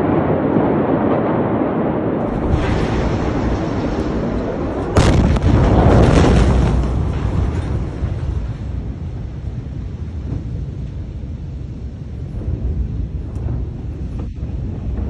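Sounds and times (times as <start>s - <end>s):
explosion boom and rumble: 0.0s - 15.0s
wind buffeting microphone: 0.0s - 15.0s.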